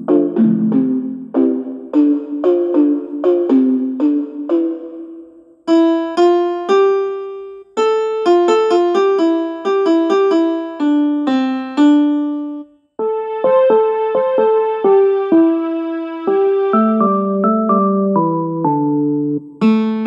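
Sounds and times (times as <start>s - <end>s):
keyboard ringtone melody: 0.0s - 20.0s.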